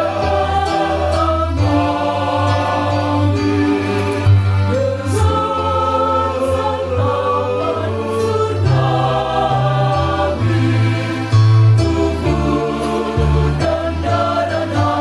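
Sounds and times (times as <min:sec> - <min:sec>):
choir singing: 0:00.0 - 0:15.0
electronic keyboard: 0:00.0 - 0:15.0.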